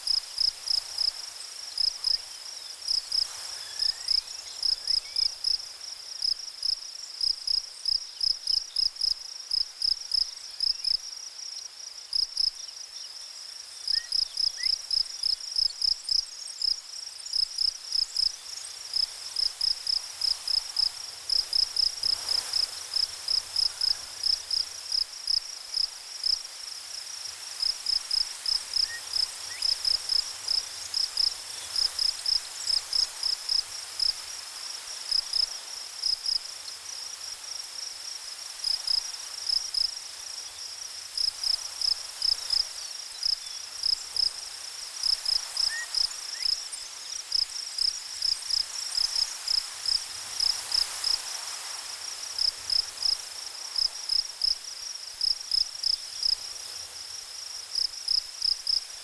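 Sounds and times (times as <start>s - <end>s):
faint steady hiss: 0.0s - 59.0s
insect chirping: 0.1s - 59.0s.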